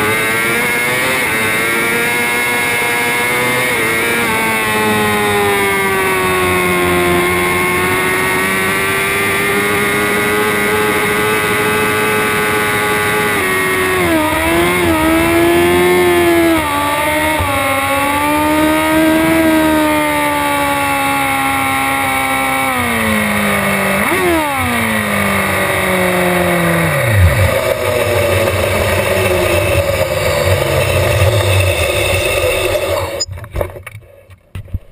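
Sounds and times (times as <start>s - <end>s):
motorcycle engine revving: 0.0s - 33.3s.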